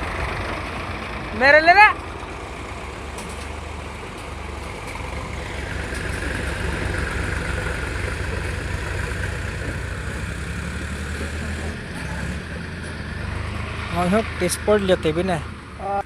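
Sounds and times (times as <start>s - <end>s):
tractor diesel engine rumbling: 0.0s - 16.0s.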